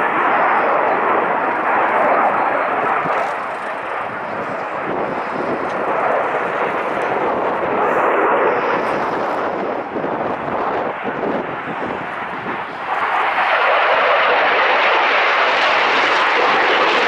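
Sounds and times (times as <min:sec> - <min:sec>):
fighter jet engine roar: 0:00.0 - 0:17.0.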